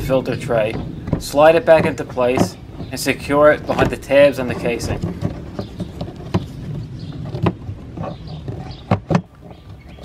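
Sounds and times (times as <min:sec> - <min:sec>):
plastic rubbing: 0:00.0 - 0:10.0
sharp plastic clicks and knocks: 0:00.0 - 0:10.0.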